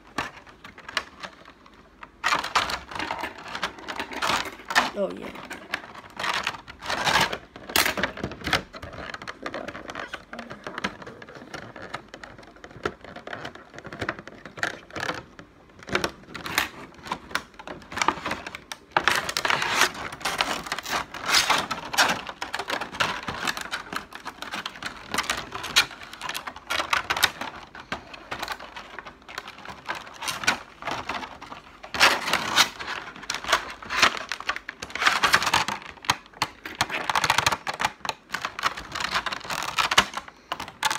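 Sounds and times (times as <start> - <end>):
plastic packaging crinkling: 0.0 - 40.9.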